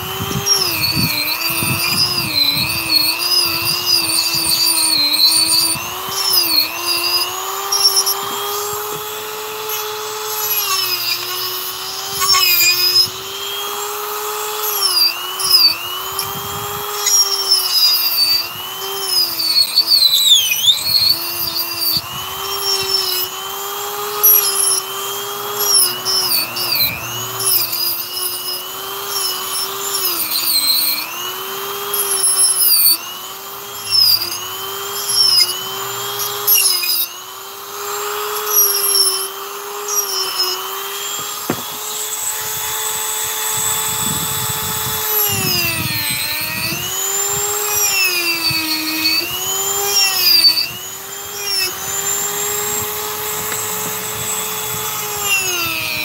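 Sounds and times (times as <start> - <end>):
rotary tool whining carving wood: 0.0 - 56.0.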